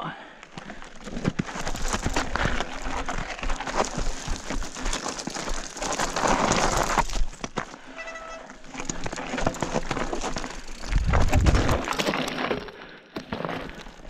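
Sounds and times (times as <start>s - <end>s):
bike tyres crunching over stones: 0.4s - 14.0s
bike knocking and clattering: 0.9s - 14.0s.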